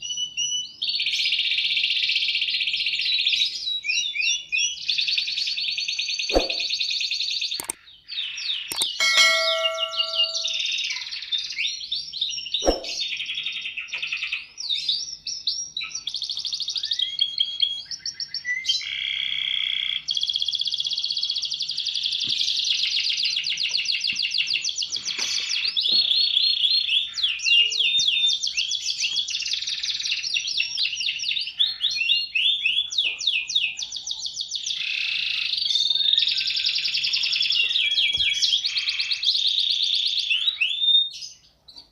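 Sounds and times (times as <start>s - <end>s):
canary singing trills: 0.0s - 41.9s.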